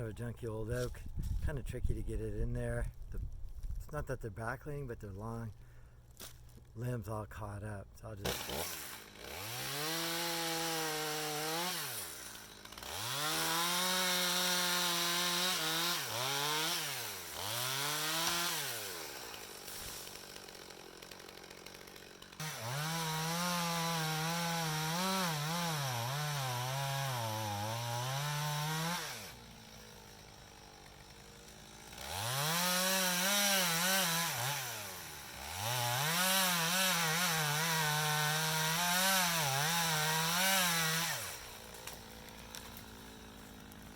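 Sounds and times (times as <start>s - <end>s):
chainsaw revving and cutting wood: 7.4s - 43.9s.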